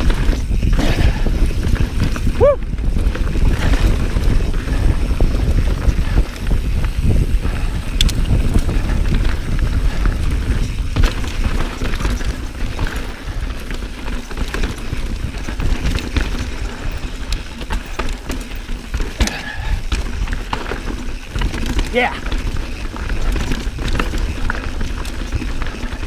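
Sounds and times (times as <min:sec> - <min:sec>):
bike tyre noise: 0:00.0 - 0:26.0
chain and frame rattling: 0:00.0 - 0:26.0
wind rumble on microphone: 0:00.0 - 0:26.0.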